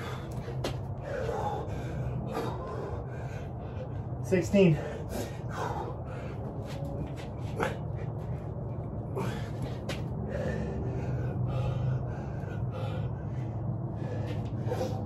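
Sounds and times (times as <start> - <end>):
man breathing hard and gasping: 0.0 - 15.0
steady low hum: 0.0 - 15.0.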